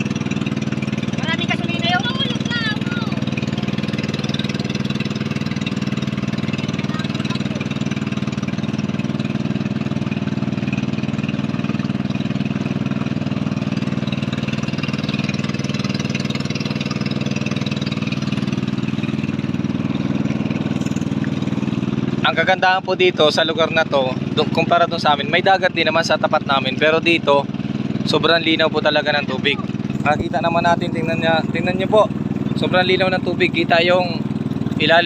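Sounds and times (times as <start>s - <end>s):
small boat motor running: 0.0s - 35.0s.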